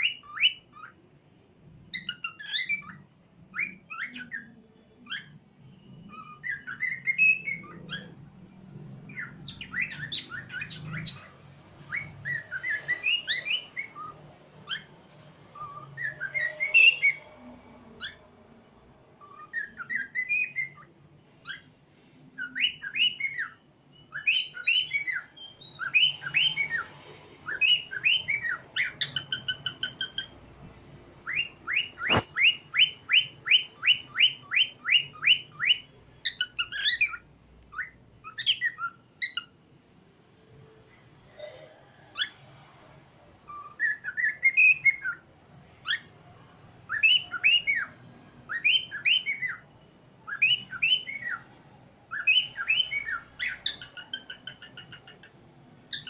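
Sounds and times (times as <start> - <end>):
cockatiel singing: 0.0 - 1.0, 1.7 - 39.6, 42.1 - 56.0.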